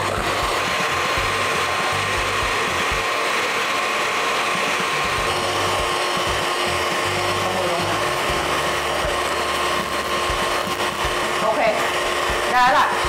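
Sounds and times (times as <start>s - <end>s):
electric hand mixer whipping: 0.0s - 13.0s.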